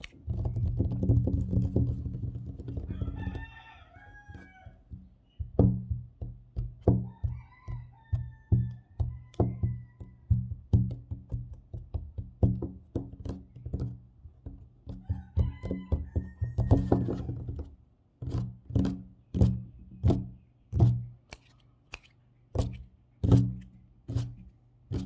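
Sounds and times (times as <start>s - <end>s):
fingers tapping on a table: 4.3s - 25.0s.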